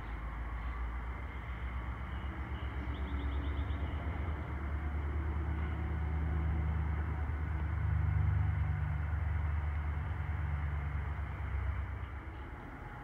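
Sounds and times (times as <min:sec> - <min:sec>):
diesel locomotive engine: 0:00.0 - 0:13.0.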